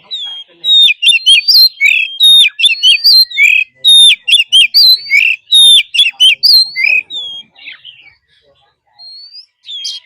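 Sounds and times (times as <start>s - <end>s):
bird singing whistled notes: 0.0s - 8.1s, 9.0s - 10.0s.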